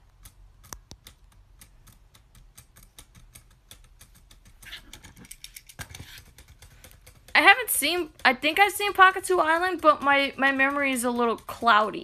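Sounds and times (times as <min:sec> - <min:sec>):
faint keyboard typing: 0:00.0 - 0:12.0.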